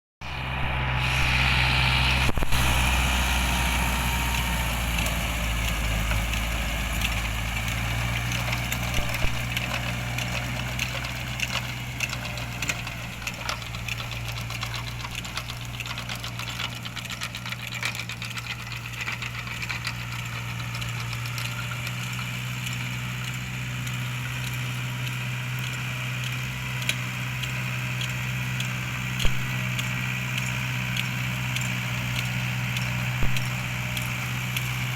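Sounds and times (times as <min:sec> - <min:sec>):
tractor diesel engine running: 0:00.2 - 0:34.9
light rattling clicks: 0:05.1 - 0:34.8.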